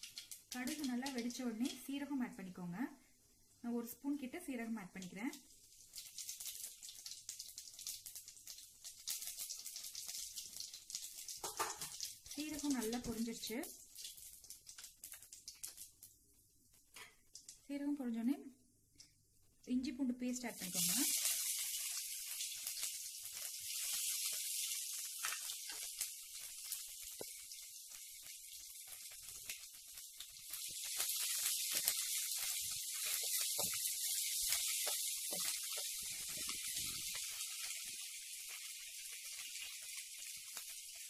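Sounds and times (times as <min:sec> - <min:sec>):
paste sizzling in hot oil: 0:00.0 - 0:02.1, 0:04.9 - 0:17.6, 0:20.3 - 0:41.0.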